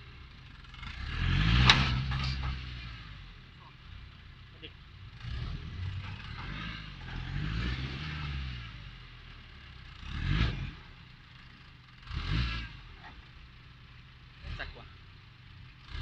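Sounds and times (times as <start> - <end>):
engine revving: 0.0 - 13.3, 14.3 - 15.0, 15.6 - 16.0.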